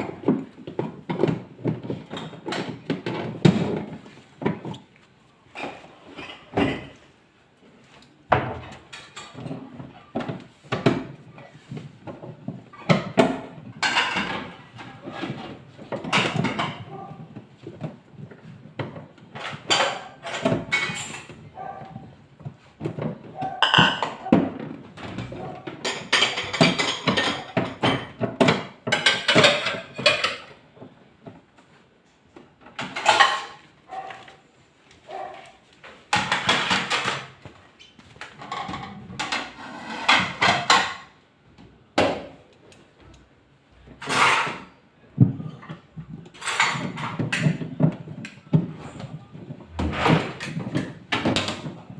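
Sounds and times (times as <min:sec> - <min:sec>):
knocks and clattering of parts: 0:00.0 - 0:07.2, 0:07.9 - 0:51.9.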